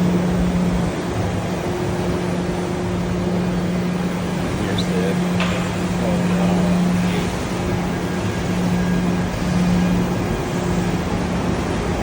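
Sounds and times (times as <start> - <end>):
intermittent low hum: 0.0 - 12.0.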